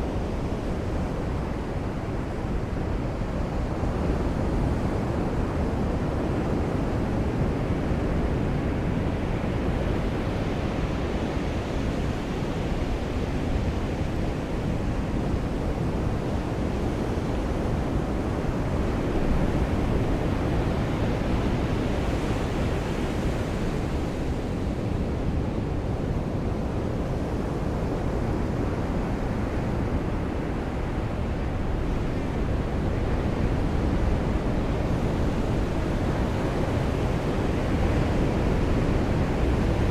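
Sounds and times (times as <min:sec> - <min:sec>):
ocean surf washing on beach: 0:00.1 - 0:39.9.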